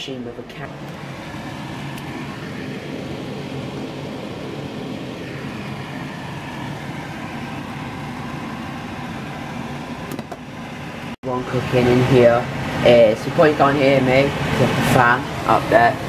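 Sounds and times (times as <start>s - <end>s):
extractor fan running: 0.0s - 16.0s.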